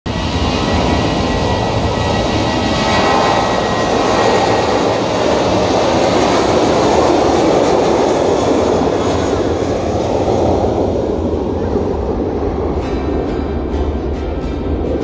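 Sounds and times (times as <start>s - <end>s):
high engine whine: 0.1s - 15.0s
jet engines running at high power: 0.1s - 15.0s.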